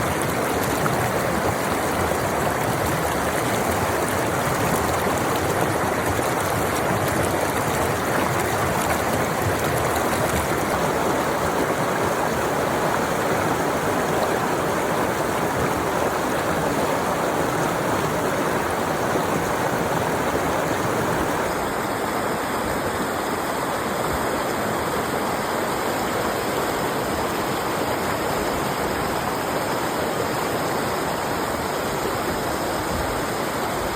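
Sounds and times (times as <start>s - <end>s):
fast-flowing stream rushing: 0.0s - 33.8s.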